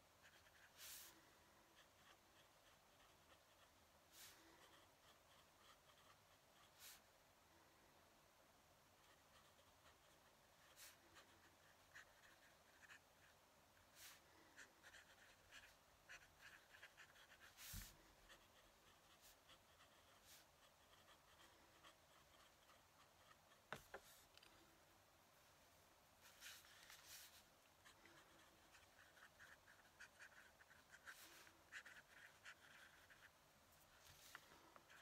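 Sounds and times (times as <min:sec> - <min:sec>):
pen nib scratching paper: 0:00.2 - 0:01.2, 0:01.8 - 0:07.0, 0:09.0 - 0:24.6, 0:26.2 - 0:35.0.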